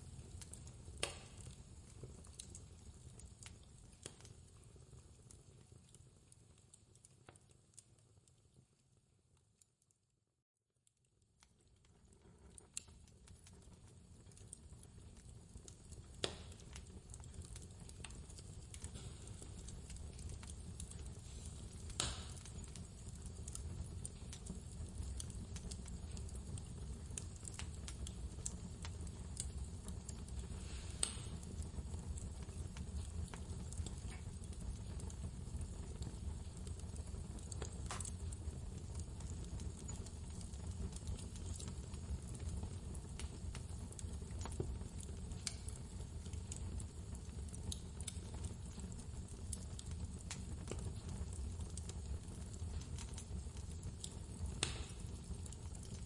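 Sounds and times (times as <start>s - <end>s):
wood fire crackling: 0.0s - 9.9s, 10.8s - 56.0s.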